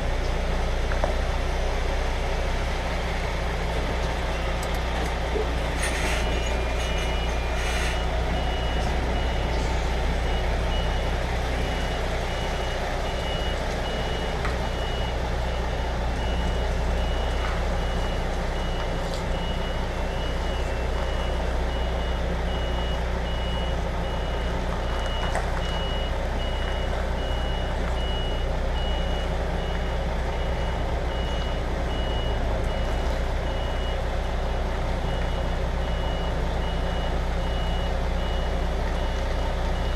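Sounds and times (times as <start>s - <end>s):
diesel engine running: 0.0s - 39.9s
truck reversing alarm beeping: 1.8s - 39.9s.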